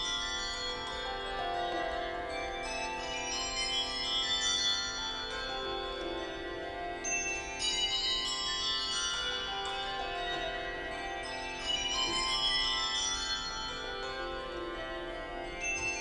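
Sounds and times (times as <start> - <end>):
handbells ringing: 0.0 - 16.0.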